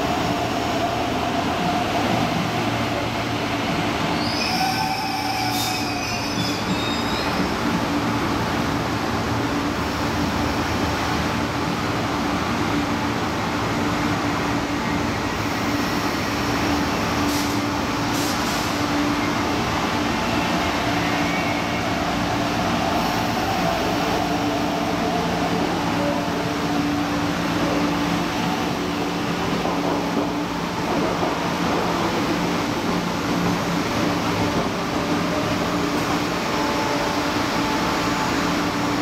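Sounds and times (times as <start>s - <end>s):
train rail rumble: 0.0s - 39.0s.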